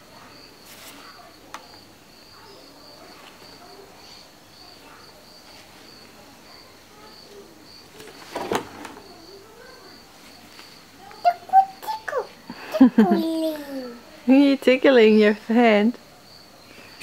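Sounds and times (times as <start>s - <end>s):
insect chirping: 0.2s - 17.0s.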